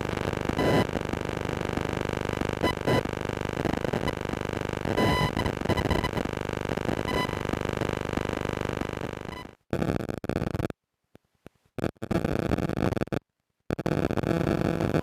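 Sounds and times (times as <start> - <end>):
electronic radio buzz: 0.0 - 10.7, 11.8 - 15.0
short radio bursts and clicks: 1.8 - 10.7, 11.8 - 15.0.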